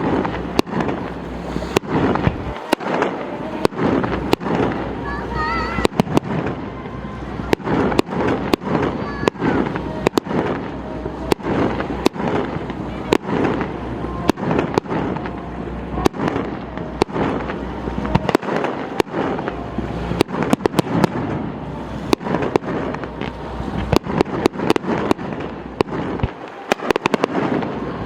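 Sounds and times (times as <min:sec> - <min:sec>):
fireworks bursting with bangs: 0:00.0 - 0:28.0
fireworks crackling: 0:00.0 - 0:28.0.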